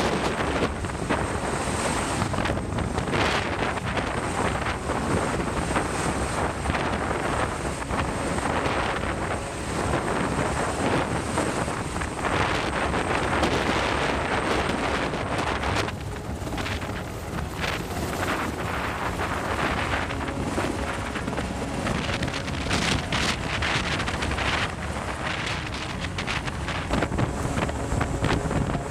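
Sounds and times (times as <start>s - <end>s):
steady rushing water: 0.0s - 28.9s
wind buffeting microphone: 0.0s - 28.9s.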